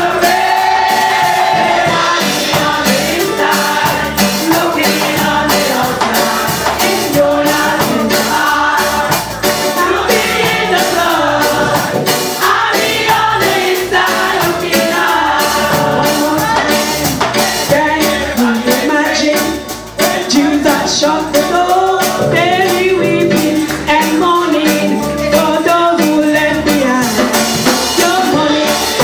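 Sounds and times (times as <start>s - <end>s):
band accompaniment: 0.0s - 29.0s
choir singing gospel: 0.0s - 29.0s
drums and tambourine beat: 0.0s - 29.0s.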